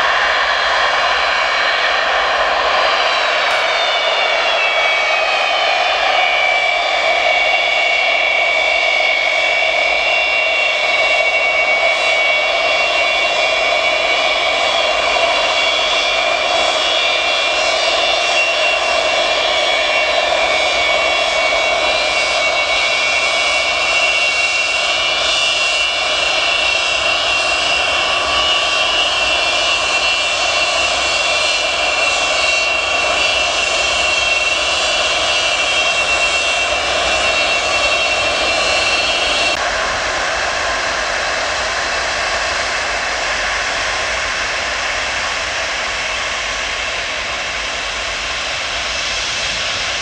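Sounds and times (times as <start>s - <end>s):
jet engines whining at taxi power: 0.0s - 50.0s.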